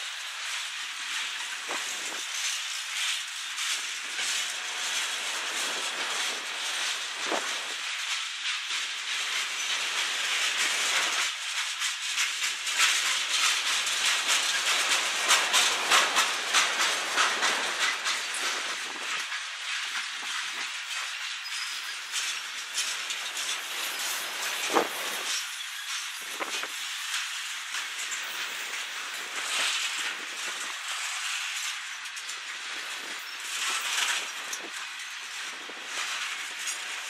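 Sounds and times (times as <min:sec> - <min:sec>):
freight train wheels on rail: 0:00.0 - 0:37.0
wheels clicking and clacking: 0:00.0 - 0:37.0.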